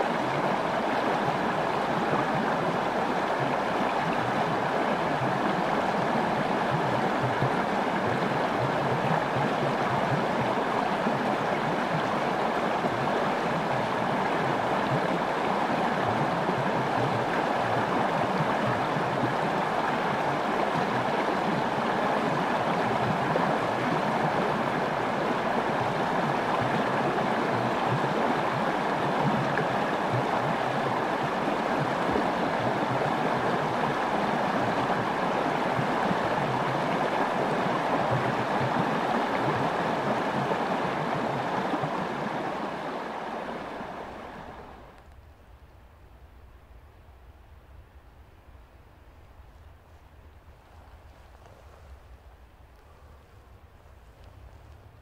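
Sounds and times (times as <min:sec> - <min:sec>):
river rapids roaring: 0:00.0 - 0:44.9.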